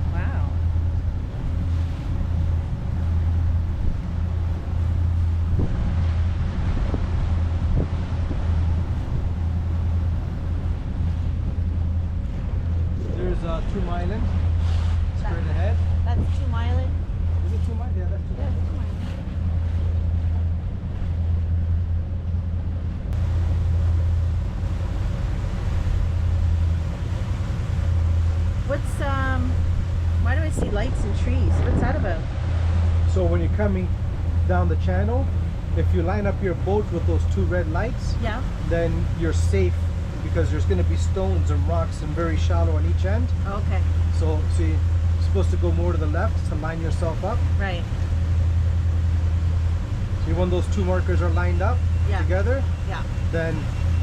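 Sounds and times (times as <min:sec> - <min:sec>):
motorboat engine drone: 0:00.0 - 0:54.0
wind buffeting microphone: 0:00.0 - 0:54.0.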